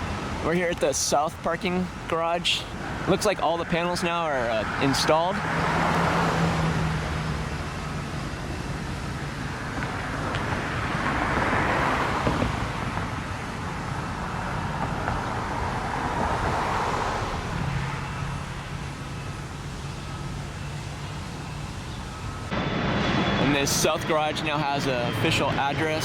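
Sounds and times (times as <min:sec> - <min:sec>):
cars passing by: 0:00.0 - 0:26.0.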